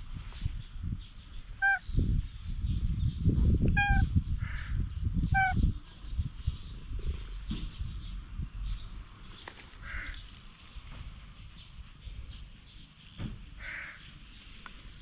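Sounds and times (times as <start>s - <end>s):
low rumbling microphone noise: 0.0s - 15.0s.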